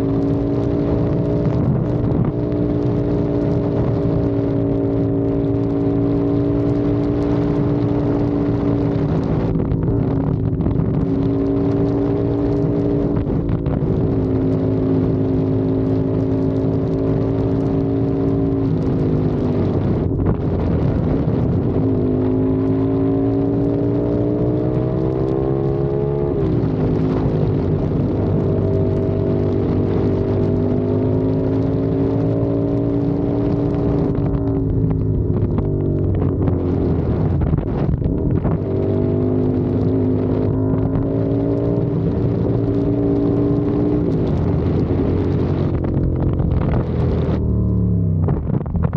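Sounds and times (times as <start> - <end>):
motorcycle engine and exhaust: 0.0 - 48.9.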